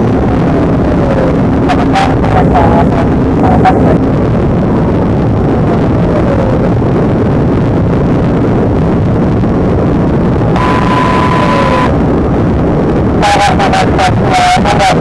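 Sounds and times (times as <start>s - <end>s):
car engine driving fast: 0.0s - 14.3s
road noise: 0.0s - 15.0s
wind noise: 0.0s - 15.0s.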